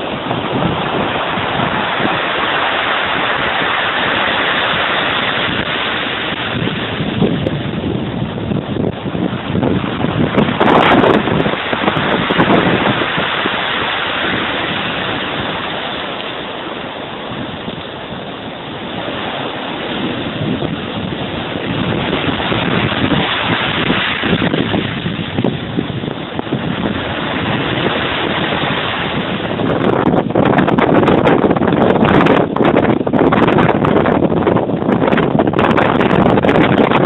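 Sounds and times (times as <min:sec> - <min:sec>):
sea waves breaking: 0:00.0 - 0:37.0
wind buffeting microphone: 0:00.0 - 0:37.0.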